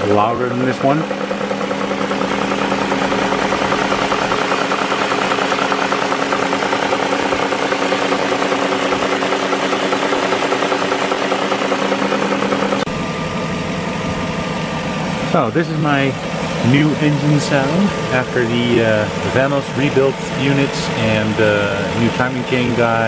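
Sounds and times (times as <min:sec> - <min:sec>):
engine idling with rattling whine: 0:00.0 - 0:23.0
smooth engine idling: 0:00.0 - 0:23.0.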